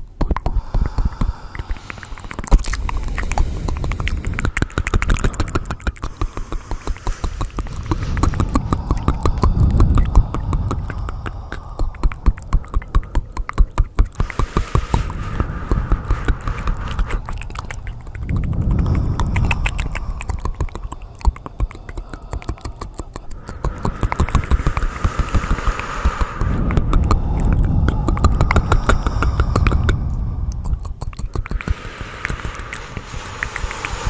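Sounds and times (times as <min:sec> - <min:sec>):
rapid clicking and tapping: 0:00.0 - 0:30.0, 0:30.6 - 0:34.0
low rumble: 0:00.5 - 0:34.0
scratchy noise: 0:01.7 - 0:12.6, 0:14.0 - 0:21.7, 0:23.2 - 0:34.0.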